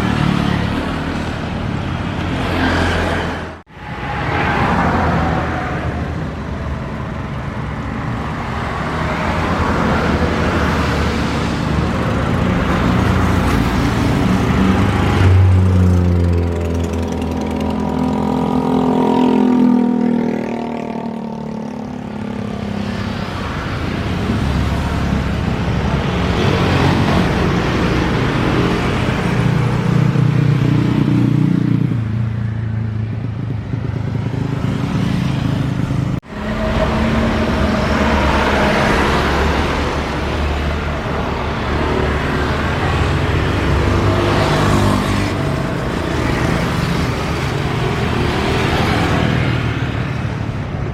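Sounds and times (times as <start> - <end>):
passing traffic engine rumble: 0.0 - 50.9.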